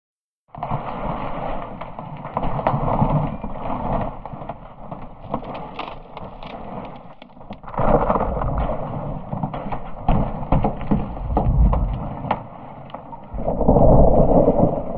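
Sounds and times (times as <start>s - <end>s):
ice cracking and popping: 0.5s - 14.9s
ice rumbling in water: 0.5s - 14.9s.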